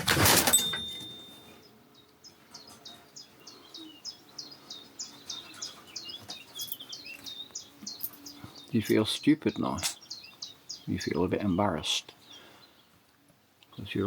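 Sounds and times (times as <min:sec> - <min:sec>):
small bird chirping: 0:00.6 - 0:14.0.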